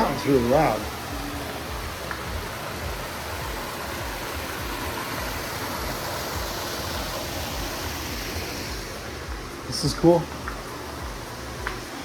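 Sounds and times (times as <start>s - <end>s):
water fountain splashing: 0.0s - 12.0s.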